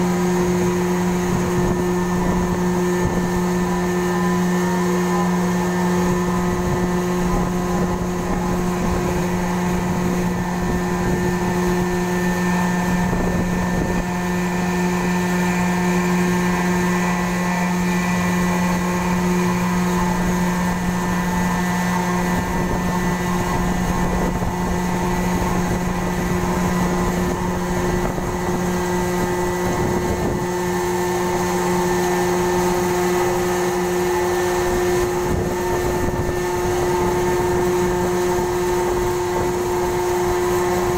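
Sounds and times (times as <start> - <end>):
ferry engines droning: 0.0 - 40.9.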